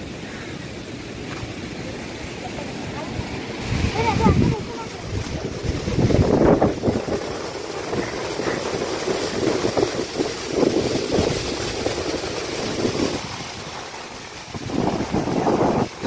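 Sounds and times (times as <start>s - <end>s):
water rushing over spillway: 0.0s - 16.0s
wind buffeting microphone: 0.0s - 16.0s.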